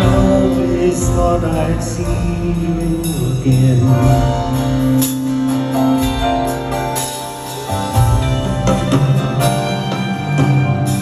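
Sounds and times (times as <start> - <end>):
live band playing instrumental: 0.0 - 11.0.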